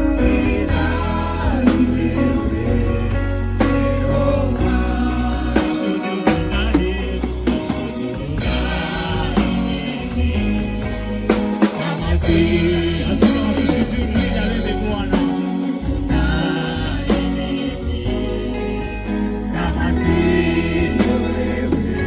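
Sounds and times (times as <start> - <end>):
drums: 0.0 - 22.0
gospel choir singing: 0.0 - 22.0
steady bass: 0.0 - 22.0.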